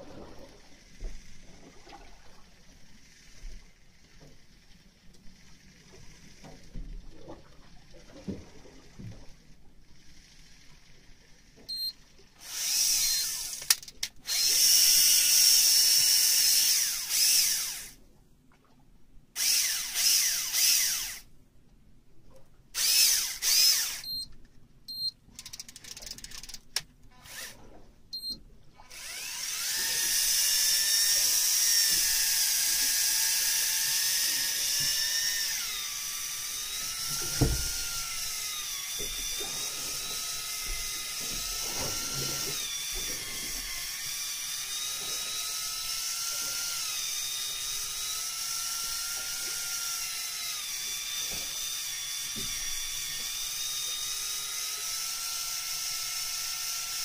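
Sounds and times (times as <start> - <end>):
electric fishing reel motor whine: 2.7 - 6.8, 9.8 - 18.0, 19.4 - 21.3, 22.8 - 24.2, 25.7 - 27.6, 28.8 - 57.0.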